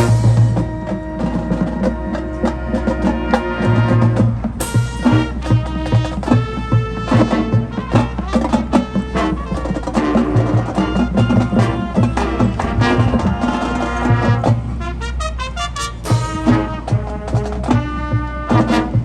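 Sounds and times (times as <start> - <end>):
brass holding chords: 0.0 - 19.0
drumline strikes: 0.0 - 19.0.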